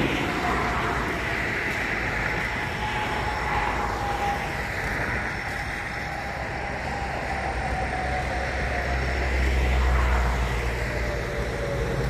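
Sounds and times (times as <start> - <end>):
faint even whine: 0.0 - 12.0
road traffic hum: 0.0 - 12.0.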